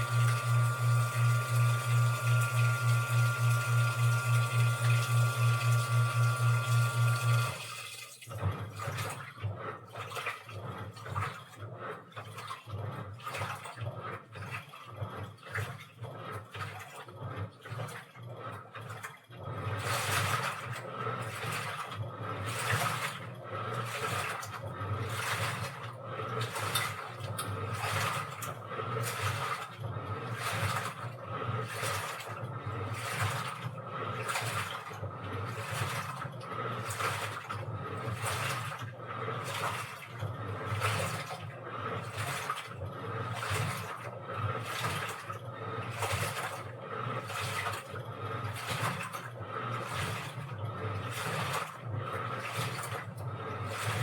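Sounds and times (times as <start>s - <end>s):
washing machine pump hum: 0.0s - 54.0s
water sloshing in drum: 0.0s - 54.0s.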